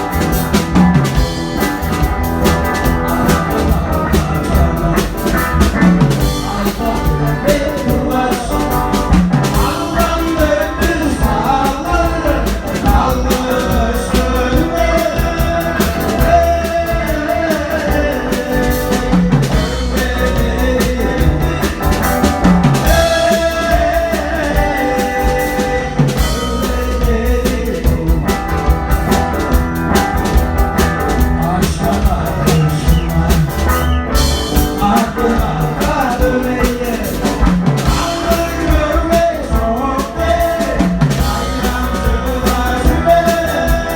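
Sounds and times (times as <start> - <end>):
live band playing: 0.0 - 43.9
person singing: 1.9 - 29.2, 31.0 - 43.9.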